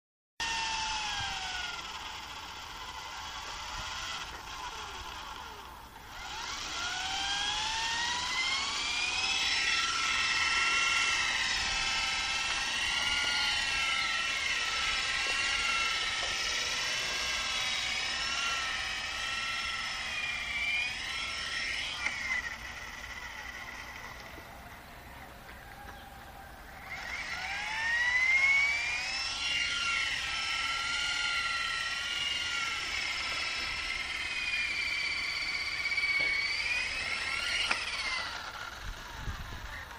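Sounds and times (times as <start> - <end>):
rc helicopter motor whining: 0.4 - 39.9.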